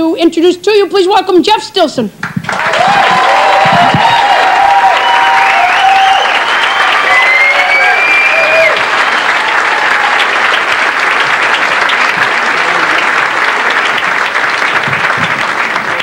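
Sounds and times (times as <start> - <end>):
audience applauding: 2.2 - 16.0.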